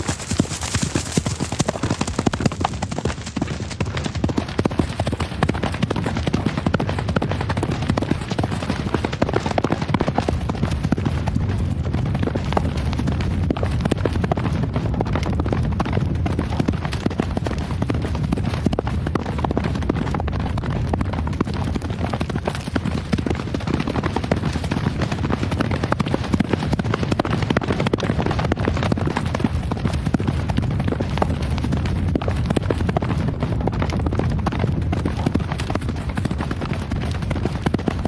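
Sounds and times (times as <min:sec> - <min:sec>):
horse hooves galloping: 0:00.0 - 0:38.0.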